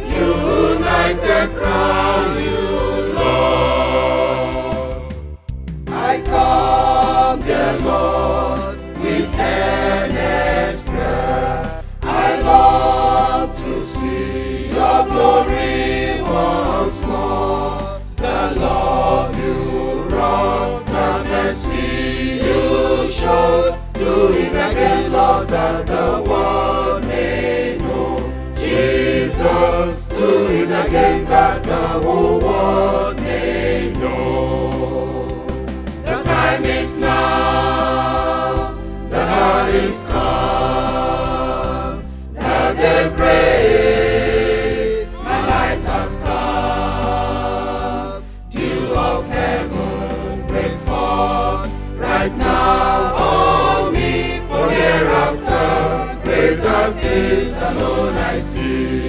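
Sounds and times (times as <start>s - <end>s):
choir singing a hymn: 0.0s - 59.0s
low musical backing: 0.0s - 59.0s.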